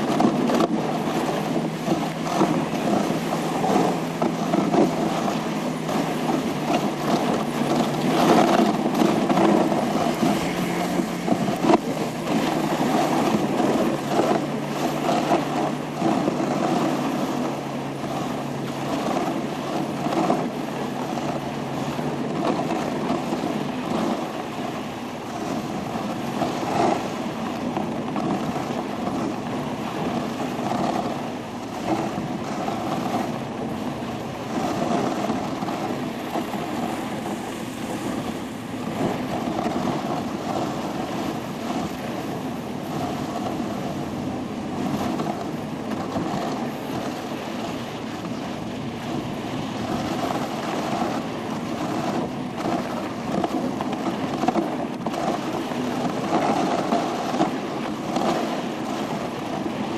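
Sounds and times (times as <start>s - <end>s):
sled runners scraping over snow: 0.0s - 59.9s.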